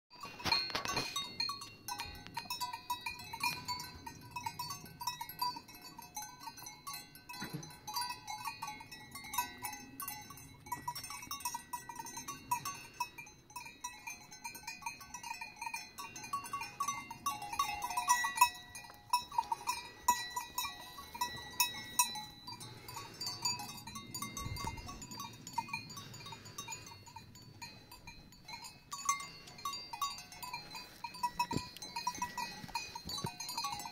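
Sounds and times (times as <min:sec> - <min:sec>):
livestock bells clanking: 0:00.1 - 0:33.9.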